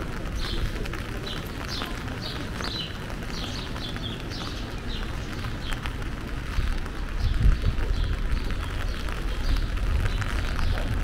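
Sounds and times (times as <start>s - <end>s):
city background rumble: 0.0s - 11.0s
small birds chirping: 0.1s - 11.0s.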